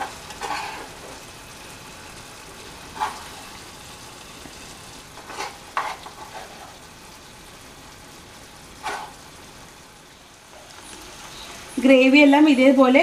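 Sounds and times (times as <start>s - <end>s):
gravy sizzling in a frying pan: 0.0s - 13.0s.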